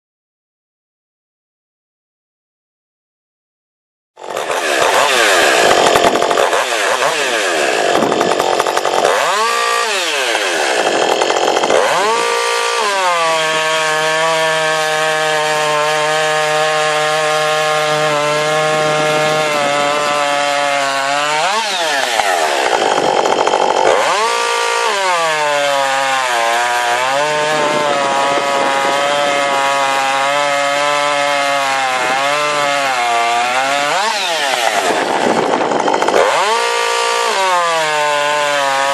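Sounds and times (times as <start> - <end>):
chainsaw engine revving: 4.2 - 38.9.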